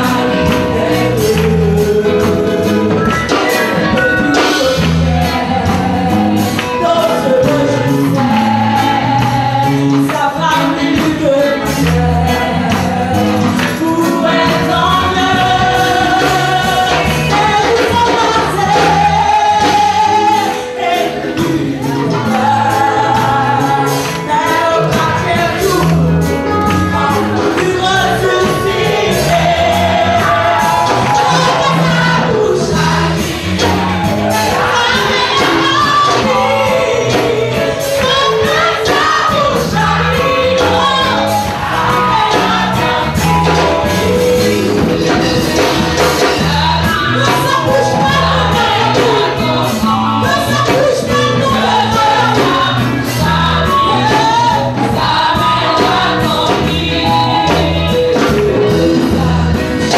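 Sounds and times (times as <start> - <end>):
congregation singing gospel song: 0.0 - 59.9
steady beat and bass line: 11.5 - 59.9.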